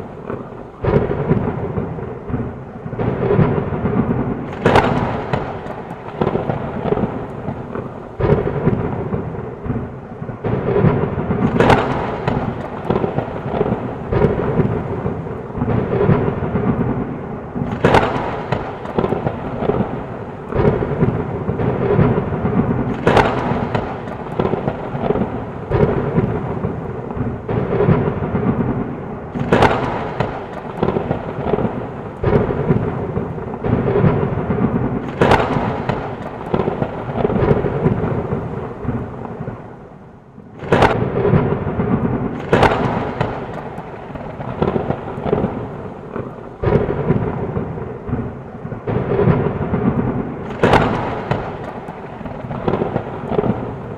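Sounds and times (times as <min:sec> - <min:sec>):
sharp thunder cracks: 0:00.0 - 0:39.9, 0:40.6 - 0:53.9
heavy rain: 0:00.0 - 0:53.9
low rumble of thunder: 0:00.0 - 0:53.9.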